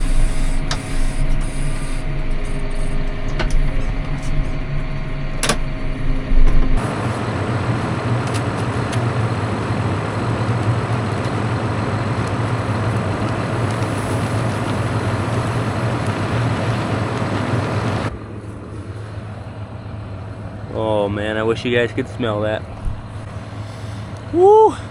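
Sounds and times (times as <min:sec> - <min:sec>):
vehicle engine droning: 0:00.0 - 0:24.9.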